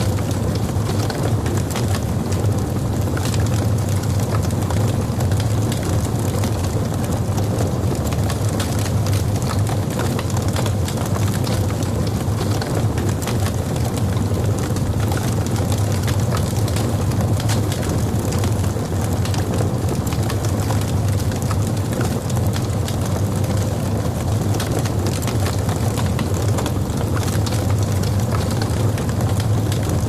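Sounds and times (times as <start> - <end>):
fire low rumble: 0.0 - 30.0
logs crackling and popping: 0.0 - 30.0.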